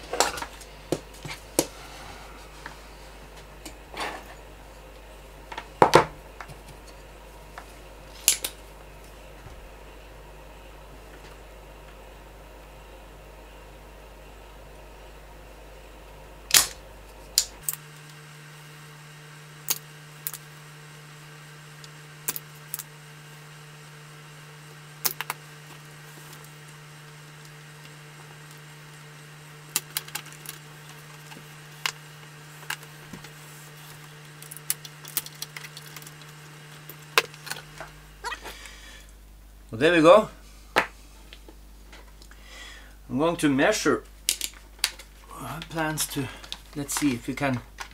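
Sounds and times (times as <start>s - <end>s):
low hum: 0.0s - 43.4s.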